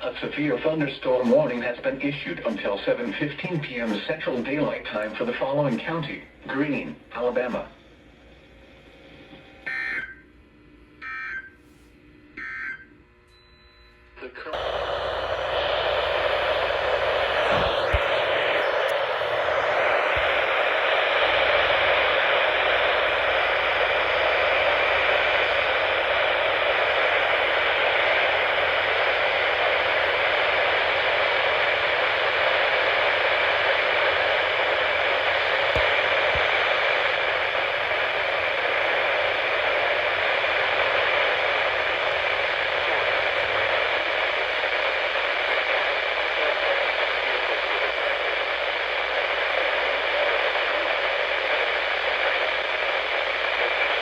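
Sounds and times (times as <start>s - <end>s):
radio static hiss: 0.0s - 7.8s, 14.2s - 54.0s.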